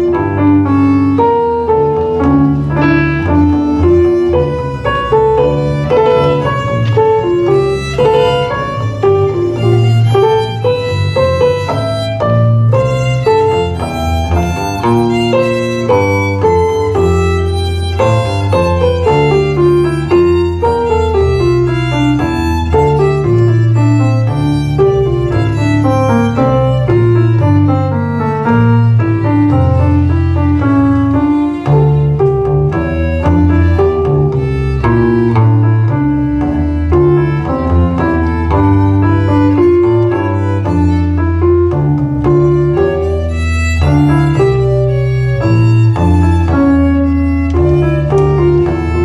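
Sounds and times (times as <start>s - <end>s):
keyboard and bass accompaniment: 0.0s - 49.0s.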